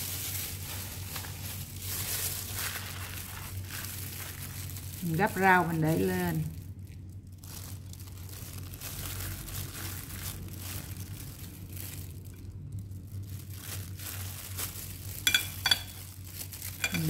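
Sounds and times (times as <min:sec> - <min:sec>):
low steady hum: 0:00.0 - 0:17.0
plastic glove crinkling: 0:00.0 - 0:17.0.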